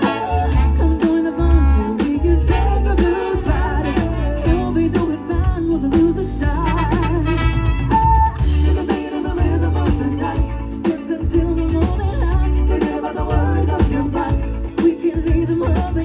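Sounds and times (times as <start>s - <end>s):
heavy bass: 0.0s - 16.0s
live band playing: 0.0s - 16.0s.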